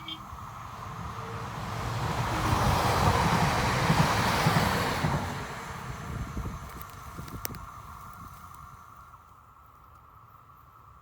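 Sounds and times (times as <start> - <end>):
train passing with rail noise: 0.0 - 11.0.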